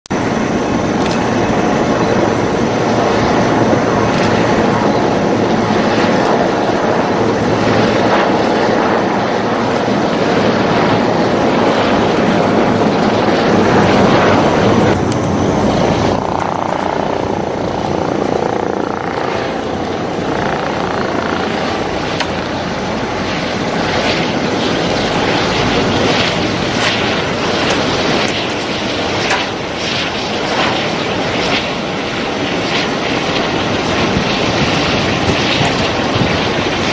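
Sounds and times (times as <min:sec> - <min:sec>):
jet aircraft flying: 0:00.1 - 0:36.9.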